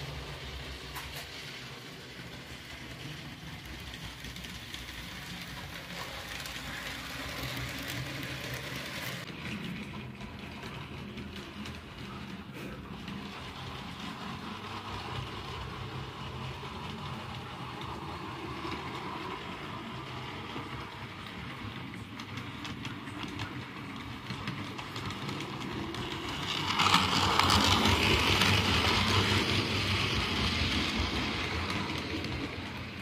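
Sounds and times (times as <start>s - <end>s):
model train humming on track: 0.0s - 33.0s.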